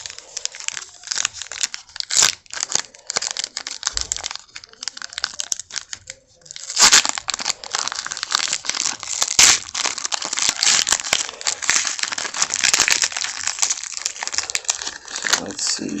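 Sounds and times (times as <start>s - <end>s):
wrapper crackling: 0.0s - 16.0s
wrapper tearing: 0.0s - 16.0s.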